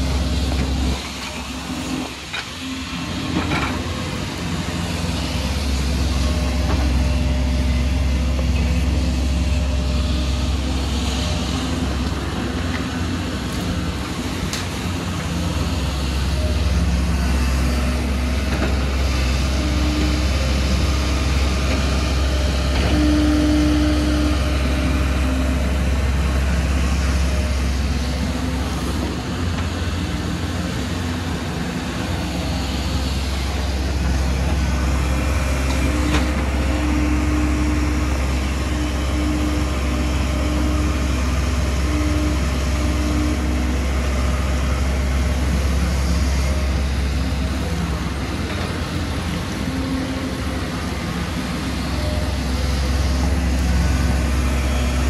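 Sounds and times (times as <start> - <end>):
excavator diesel engines droning: 0.0 - 55.0.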